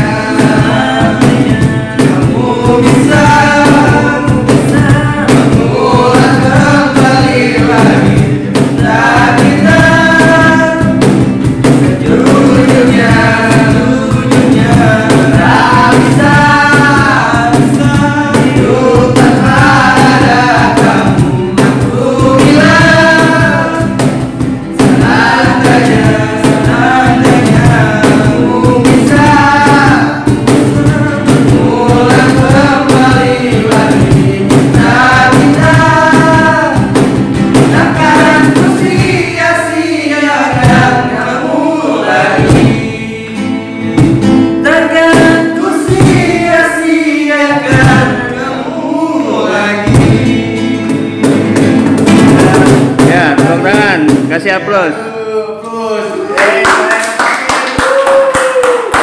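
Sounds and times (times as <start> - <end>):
cajon percussion: 0.0 - 55.1, 56.2 - 59.0
strummed acoustic guitar: 0.0 - 55.4
men singing together: 0.0 - 59.0.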